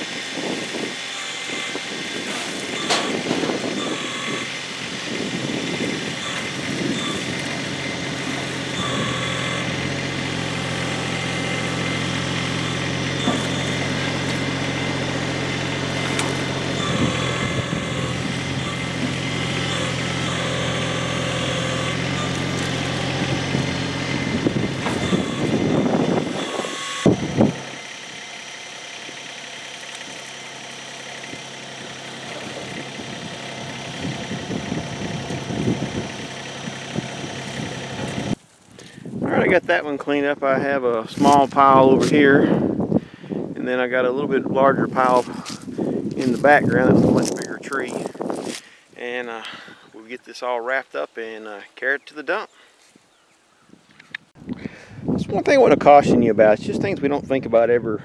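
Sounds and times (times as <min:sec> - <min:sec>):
tractor engine running: 0:00.0 - 0:52.5.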